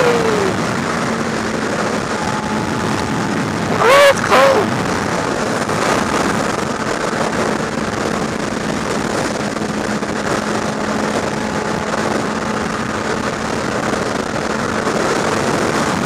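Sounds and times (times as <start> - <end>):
motorcycle engine running: 0.0 - 16.0
wind rush over microphone: 0.0 - 16.0.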